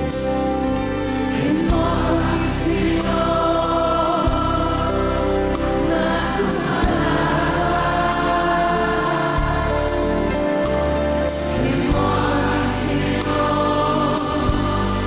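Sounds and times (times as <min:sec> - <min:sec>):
electric bass: 0:00.0 - 0:15.0
keyboard playing slow song: 0:00.0 - 0:15.0
group of voices singing: 0:01.2 - 0:15.0.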